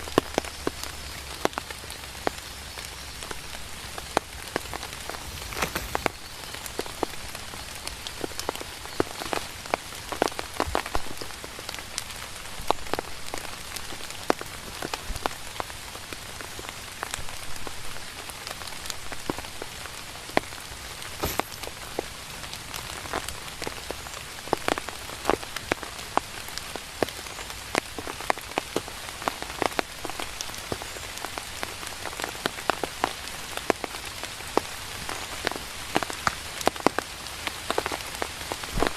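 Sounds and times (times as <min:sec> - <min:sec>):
sharp taps of raindrops: 0:00.0 - 0:38.9
steady rain falling: 0:00.0 - 0:38.9.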